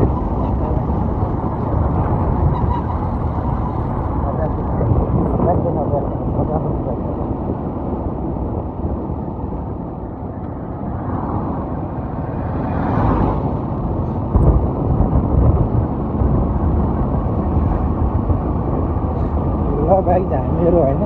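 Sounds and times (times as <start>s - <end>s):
road and vehicle noise: 0.0s - 21.0s
wind rumble on microphone: 0.0s - 21.0s.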